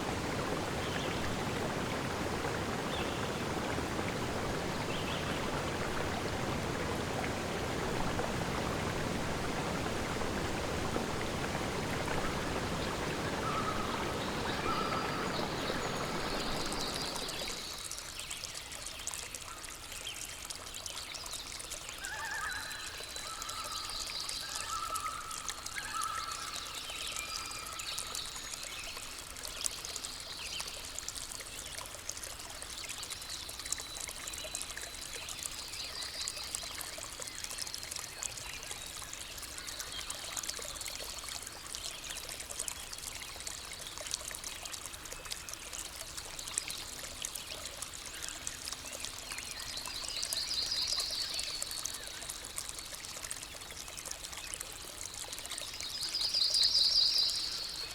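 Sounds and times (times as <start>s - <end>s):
rushing water: 0.0s - 57.9s
trickling stream: 0.0s - 57.9s.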